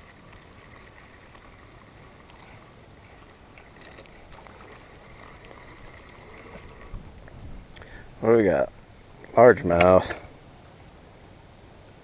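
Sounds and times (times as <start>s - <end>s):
creek water washing: 0.0s - 11.9s.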